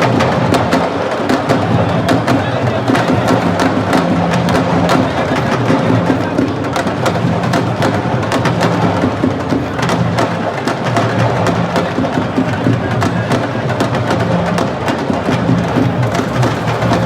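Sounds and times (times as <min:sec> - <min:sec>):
drums in repeating rhythm: 0:00.0 - 0:17.0.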